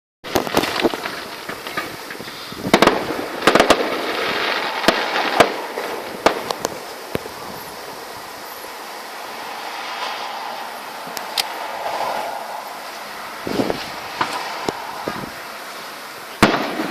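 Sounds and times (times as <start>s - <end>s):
fireworks bangs: 0.2s - 16.9s
fireworks crackling: 0.2s - 16.9s.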